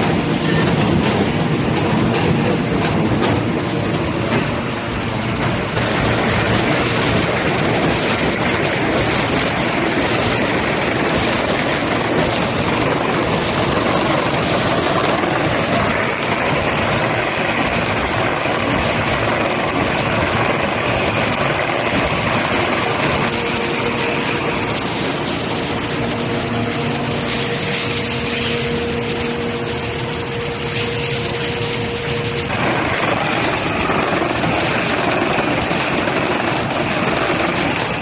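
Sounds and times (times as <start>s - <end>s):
carton machine running: 0.0s - 38.0s.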